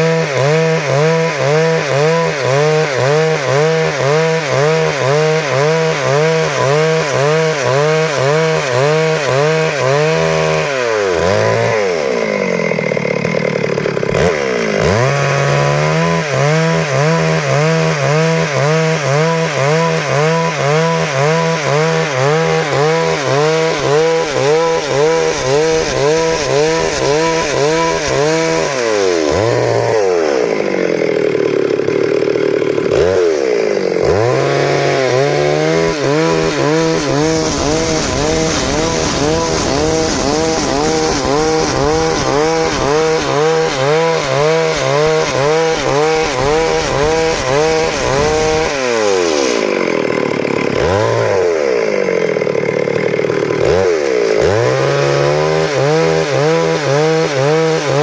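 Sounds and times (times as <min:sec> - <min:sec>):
chainsaw sawing log: 0:00.0 - 0:58.0.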